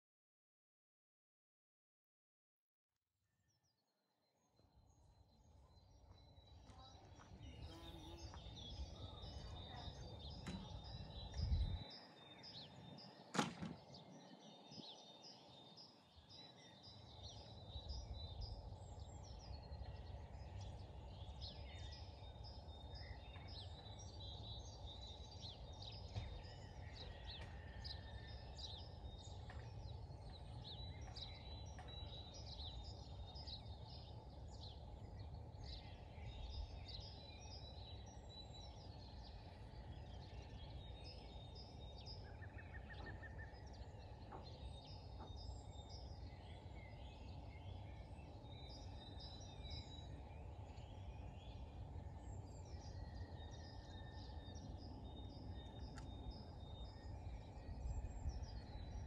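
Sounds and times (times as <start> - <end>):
small birds chirping and singing: 3.6 - 59.0
wind rumble on microphone: 5.7 - 15.0, 16.3 - 59.0.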